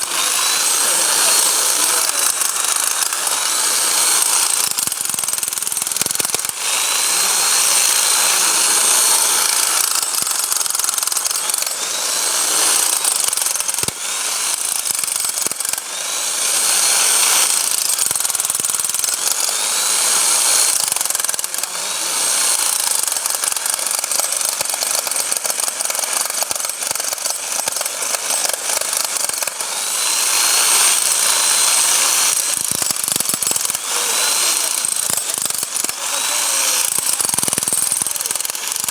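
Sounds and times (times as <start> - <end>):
hammer drill rattling and whining: 0.0 - 38.9.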